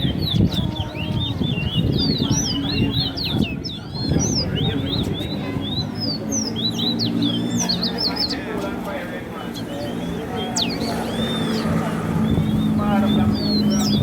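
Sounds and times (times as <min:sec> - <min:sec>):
finch singing fast high notes: 0:00.0 - 0:08.5, 0:09.4 - 0:14.0
low background voices: 0:00.0 - 0:14.0.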